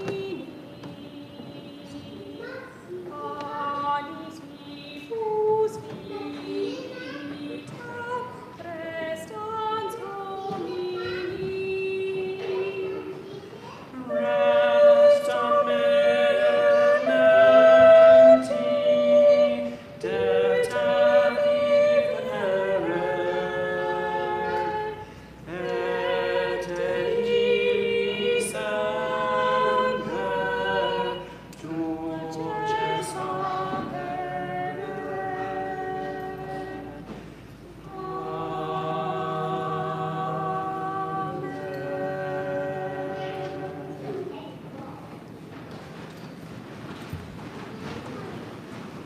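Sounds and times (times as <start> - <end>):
choir singing unaccompanied: 0.0 - 44.8.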